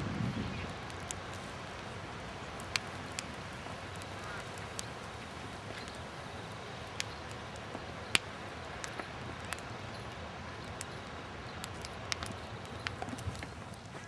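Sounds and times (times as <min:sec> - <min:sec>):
outdoor background rush: 0:00.0 - 0:14.0.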